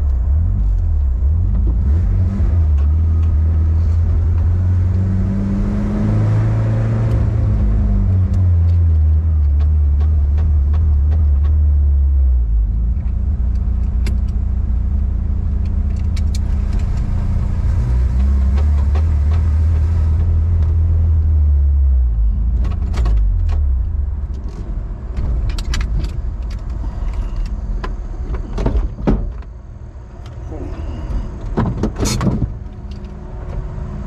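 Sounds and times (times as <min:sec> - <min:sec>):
engine running from inside cab: 0:00.0 - 0:34.0.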